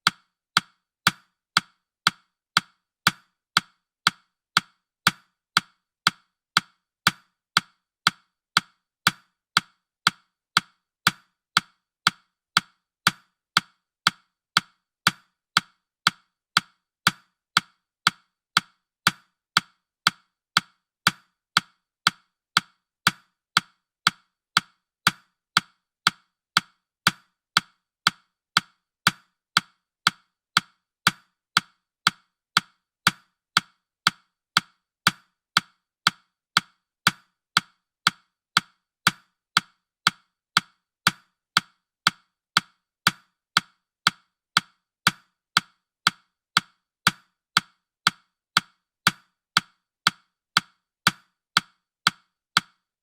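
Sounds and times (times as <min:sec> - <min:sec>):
countdown clock ticking: 0:00.0 - 0:52.9.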